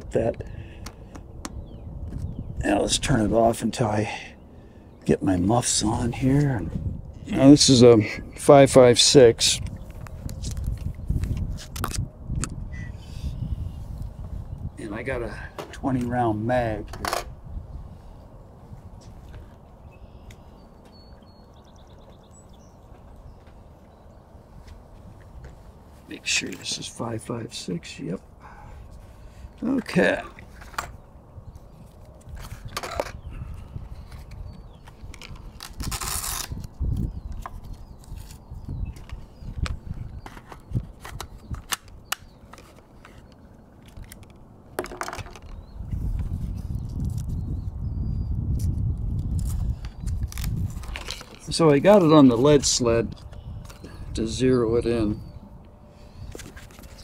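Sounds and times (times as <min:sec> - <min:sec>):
wind rumble on microphone: 0:00.0 - 0:26.1, 0:30.2 - 0:57.0.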